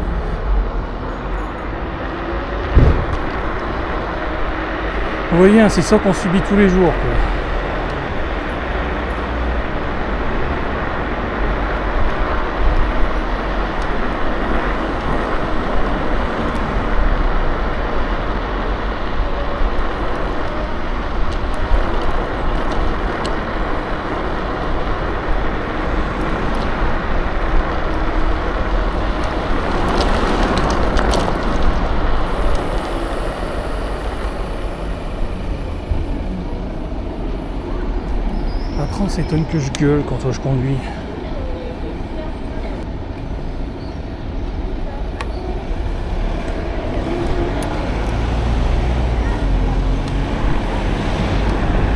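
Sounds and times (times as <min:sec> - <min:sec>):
tyre noise on road: 0:00.0 - 0:51.9.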